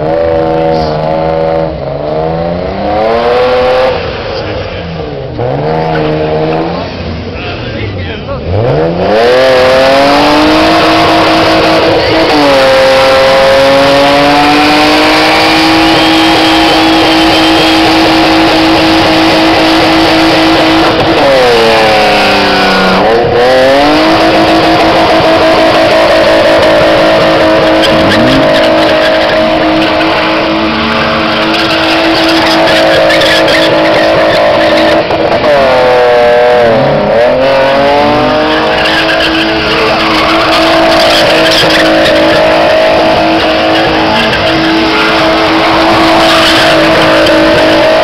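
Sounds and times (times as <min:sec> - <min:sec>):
car engine revving high: 0:00.0 - 0:48.0.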